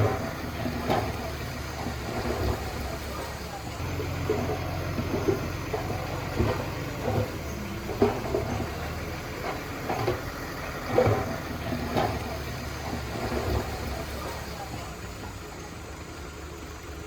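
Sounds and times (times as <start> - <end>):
metal knocks and clanks: 0.0 - 14.9
heavy diesel engine running: 0.0 - 17.0.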